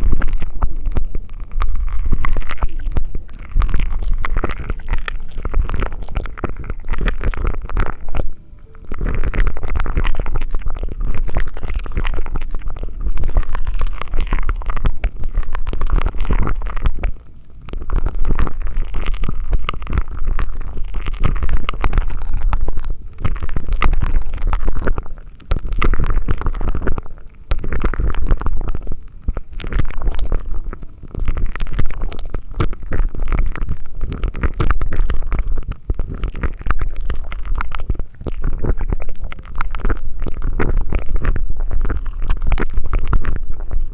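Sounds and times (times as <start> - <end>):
popping candy crackling: 0.0 - 43.9
sucking through a straw: 0.0 - 43.9.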